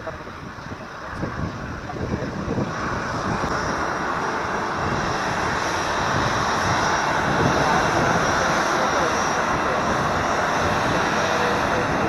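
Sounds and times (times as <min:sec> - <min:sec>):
jet engines taxiing: 0:00.0 - 0:12.0.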